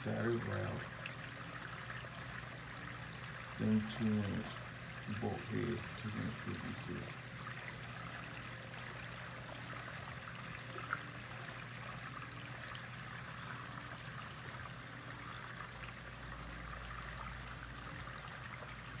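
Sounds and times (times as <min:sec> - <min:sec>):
water gurgling through pipe: 0:00.0 - 0:19.0.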